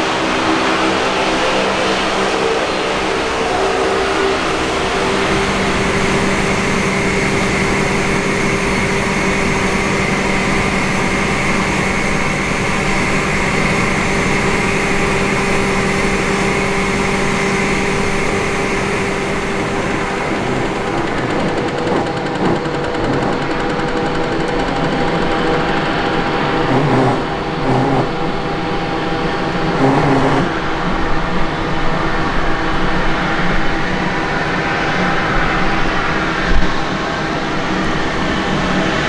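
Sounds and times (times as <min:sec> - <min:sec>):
machinery humming: 0:00.0 - 0:39.0.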